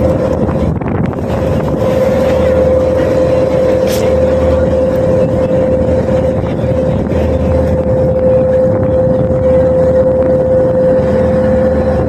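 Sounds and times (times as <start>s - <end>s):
ferry engine droning: 0.0s - 12.0s
rushing water: 0.0s - 12.0s.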